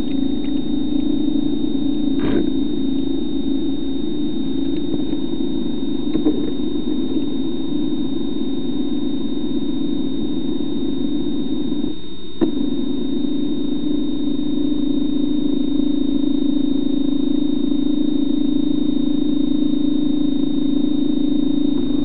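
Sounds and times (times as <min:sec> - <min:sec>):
electric thruster motors humming: 0:00.0 - 0:22.0.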